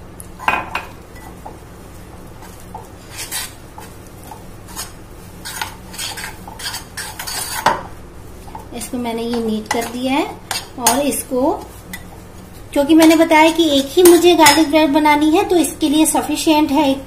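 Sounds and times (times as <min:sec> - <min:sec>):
metal spoon stirring dough: 0:01.1 - 0:14.8.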